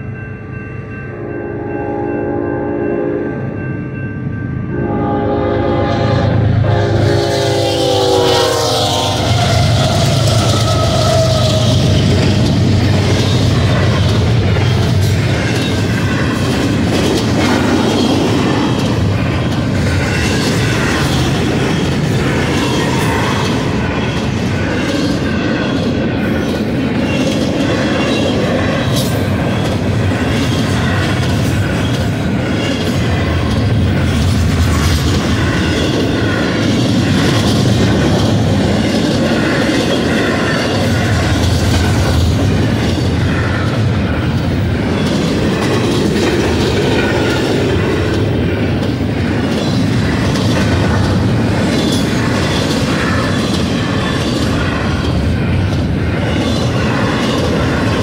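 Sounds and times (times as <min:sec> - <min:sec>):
train wheels rumbling on rails: 0:03.3 - 0:58.0.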